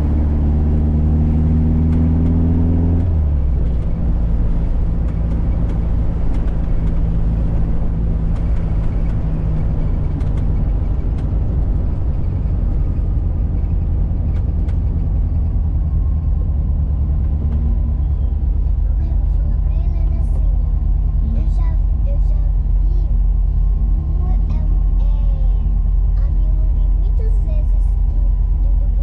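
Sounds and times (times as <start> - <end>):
car engine running: 0.0 - 29.0
road noise: 0.0 - 29.0.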